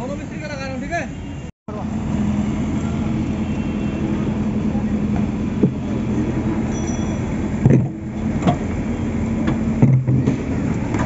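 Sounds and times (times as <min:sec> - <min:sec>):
diesel engine idling: 0:01.7 - 0:11.0.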